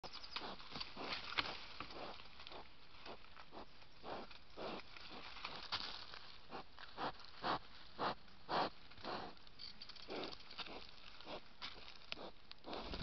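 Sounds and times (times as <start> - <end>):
wild boar sniffing: 0.3 - 5.7, 6.4 - 13.0.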